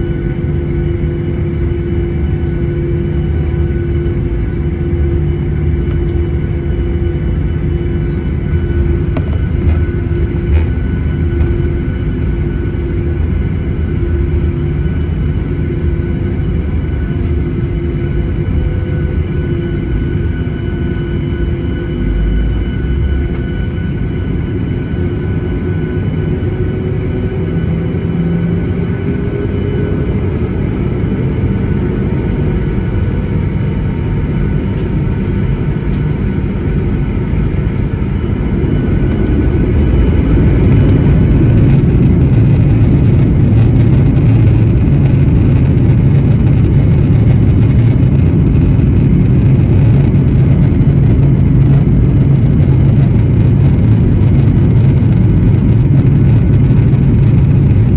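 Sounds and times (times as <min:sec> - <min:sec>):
faint rising engine whine: 0:00.0 - 0:57.9
jet engine hum in cabin: 0:00.0 - 0:57.9.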